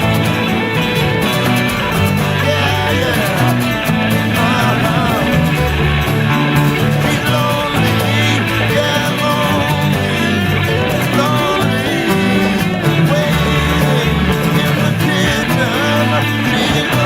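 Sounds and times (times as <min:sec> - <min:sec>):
folk-rock guitar instrumental: 0:00.0 - 0:17.0
sustained bass notes: 0:00.0 - 0:17.0.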